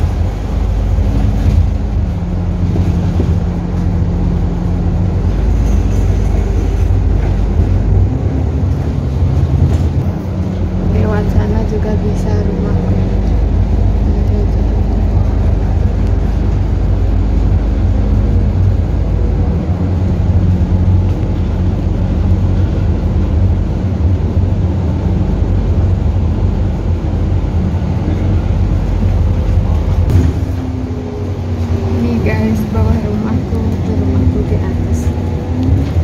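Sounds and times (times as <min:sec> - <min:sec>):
bus engine drone: 0:00.0 - 0:36.0
low road rumble: 0:00.0 - 0:36.0.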